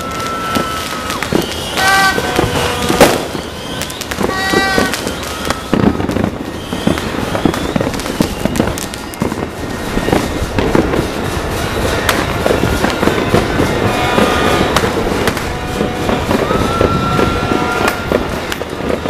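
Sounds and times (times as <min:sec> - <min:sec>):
fireworks crackling and banging: 0:00.0 - 0:19.0.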